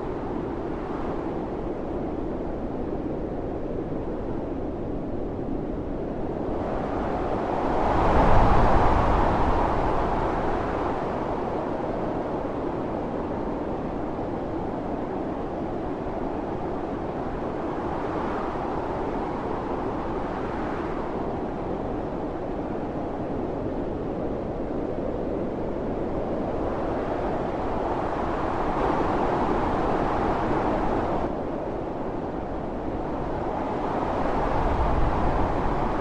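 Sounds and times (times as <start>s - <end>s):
strong wind blowing: 0.0s - 36.0s.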